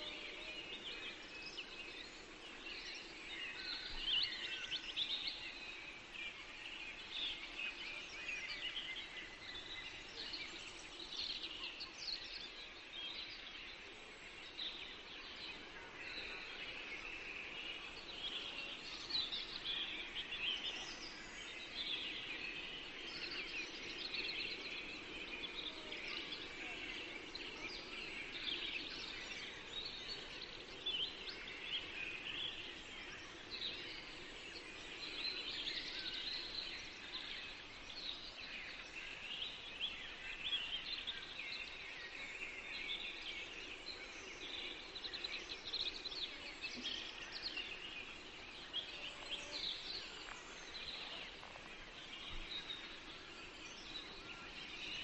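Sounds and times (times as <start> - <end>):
forest songbirds singing: 0.0 - 55.0.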